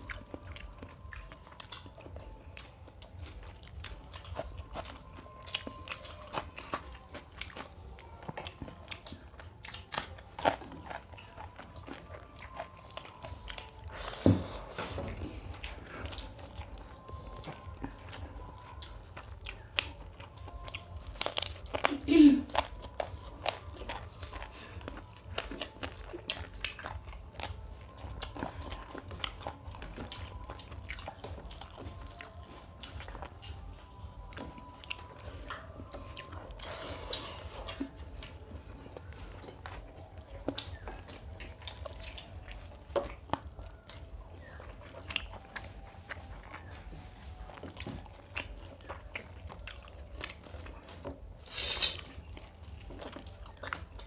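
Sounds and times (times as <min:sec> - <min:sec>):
chewing with wet mouth sounds: 0:00.0 - 0:54.0.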